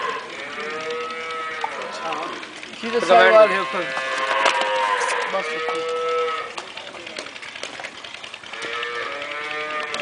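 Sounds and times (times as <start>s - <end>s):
cattle mooing: 0.0s - 6.7s, 8.5s - 10.0s.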